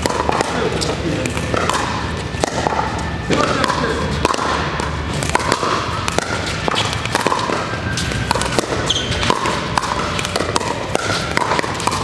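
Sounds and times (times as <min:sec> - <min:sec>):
paddles hitting plastic ball: 0:00.0 - 0:12.0.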